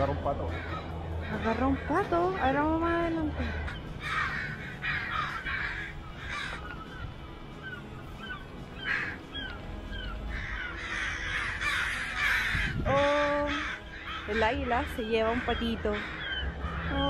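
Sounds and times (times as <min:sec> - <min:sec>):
ducks calling harshly: 0:00.0 - 0:17.0.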